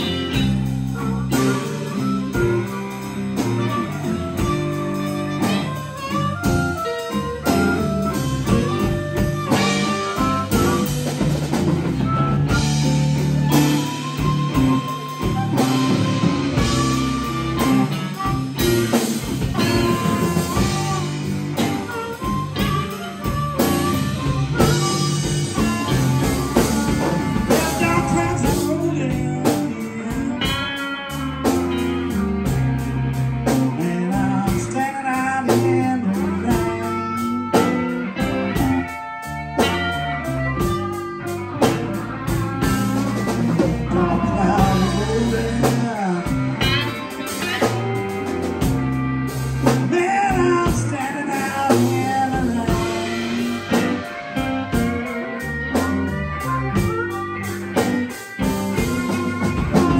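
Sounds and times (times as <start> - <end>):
electric guitar soloing with bends: 0.0 - 59.9
live blues band playing: 0.0 - 59.9.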